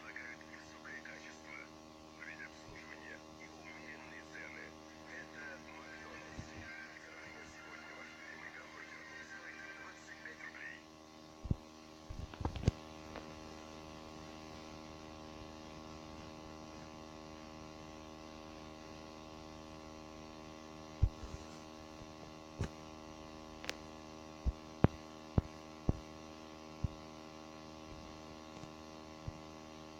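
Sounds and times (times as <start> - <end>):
electrical mains hum: 0.0 - 29.9.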